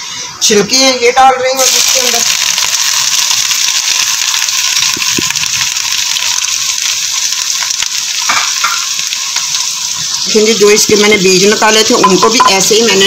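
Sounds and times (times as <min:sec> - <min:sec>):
vegetable peels sizzling in oil: 0:01.6 - 0:13.0.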